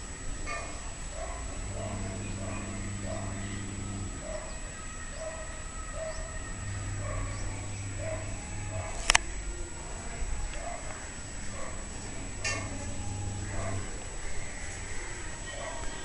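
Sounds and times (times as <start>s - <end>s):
low steady hum: 0.8s - 15.6s.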